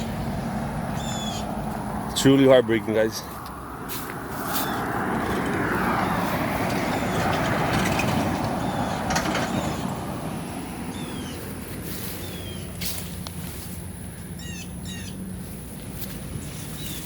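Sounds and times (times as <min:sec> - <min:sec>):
vehicle passing by: 0:00.0 - 0:17.0
birds chirping faintly: 0:00.9 - 0:03.6, 0:05.7 - 0:17.0.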